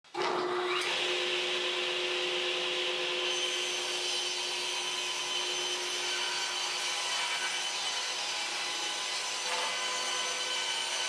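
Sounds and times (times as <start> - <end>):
power tool cutting wood: 0.1 - 11.0.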